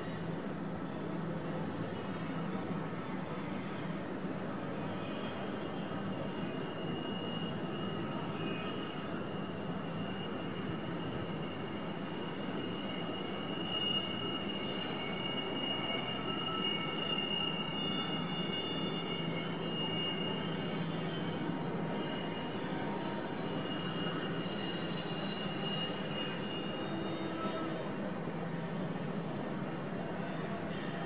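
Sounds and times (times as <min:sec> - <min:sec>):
low rumble of train cars: 0:00.0 - 0:31.0
train wheels squealing on rail: 0:00.0 - 0:31.0.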